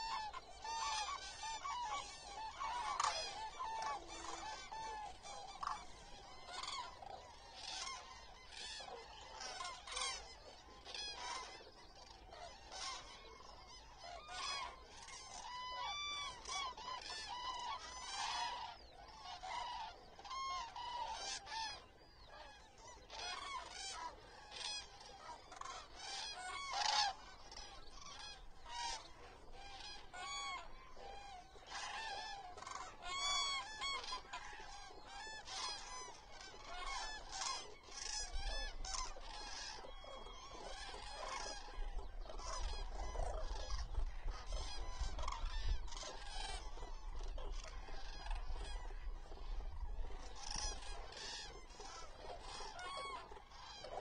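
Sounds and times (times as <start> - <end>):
cranes trumpeting calls: 0.0 - 54.0.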